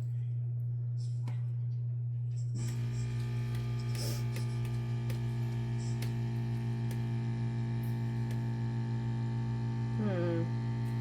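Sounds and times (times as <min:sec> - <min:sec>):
machine electric hum: 0:00.0 - 0:11.0.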